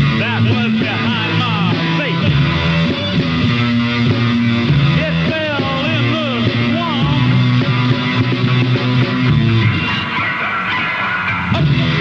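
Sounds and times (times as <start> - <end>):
rock song with electric guitar: 0.0 - 12.0.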